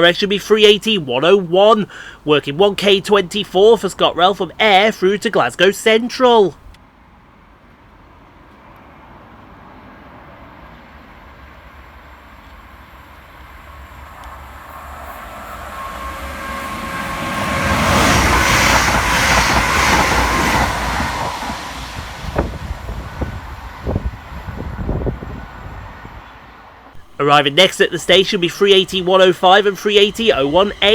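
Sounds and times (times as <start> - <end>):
electric train passing fast: 0.0 - 30.9.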